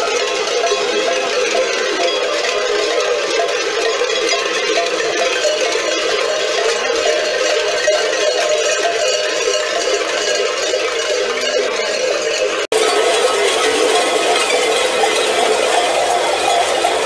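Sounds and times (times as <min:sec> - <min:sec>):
large metal bells ringing: 0:00.0 - 0:17.0.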